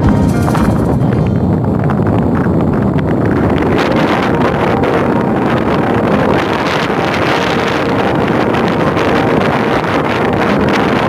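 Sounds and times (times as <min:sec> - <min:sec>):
ship engine drone: 0:00.0 - 0:11.0
wind buffeting microphone: 0:00.0 - 0:11.0.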